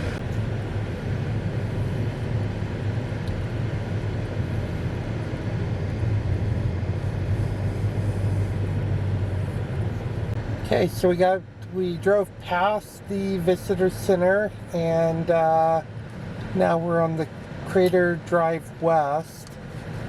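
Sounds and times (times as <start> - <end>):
car engine and tyre hum: 0.0 - 20.0.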